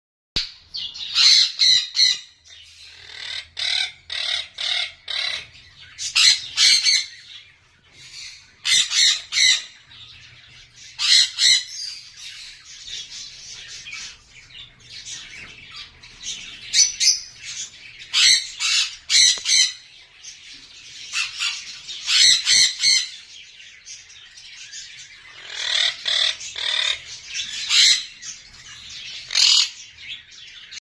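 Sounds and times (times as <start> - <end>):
birds chattering softly: 0.4 - 30.8
lovebirds squawking: 1.0 - 9.9, 10.9 - 20.0, 21.0 - 23.2, 25.2 - 29.9.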